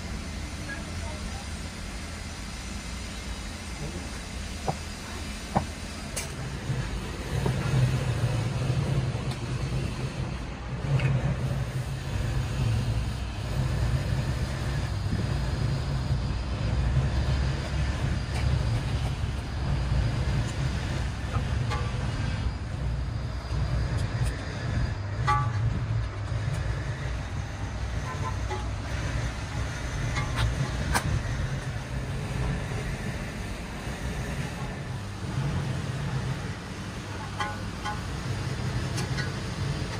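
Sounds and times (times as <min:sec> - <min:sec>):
low mechanical rumble: 0:00.0 - 0:39.9.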